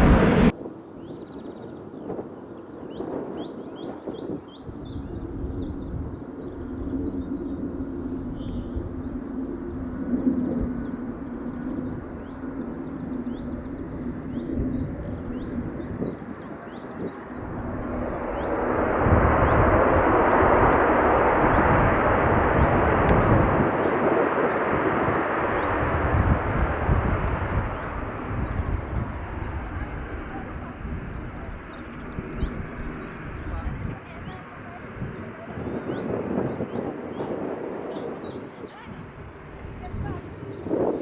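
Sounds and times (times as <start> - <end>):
jet engine roar: 0.0 - 0.6, 4.7 - 41.0.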